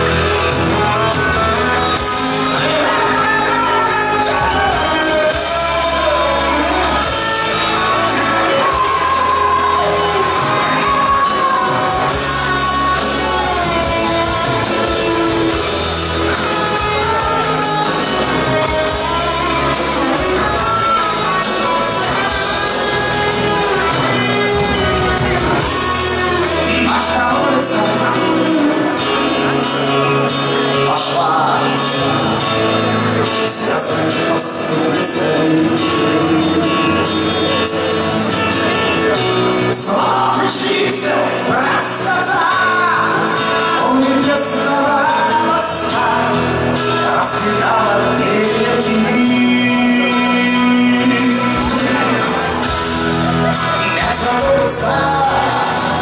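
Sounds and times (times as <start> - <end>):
live band playing rock ballad: 0.0 - 56.0
man singing with shouting delivery: 0.0 - 56.0.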